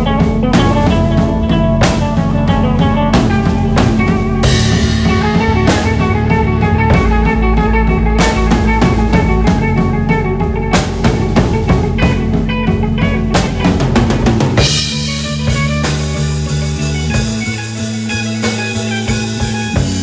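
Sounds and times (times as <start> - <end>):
bass line: 0.0 - 20.0
drum kit: 0.0 - 20.0
electric guitars: 0.0 - 20.0.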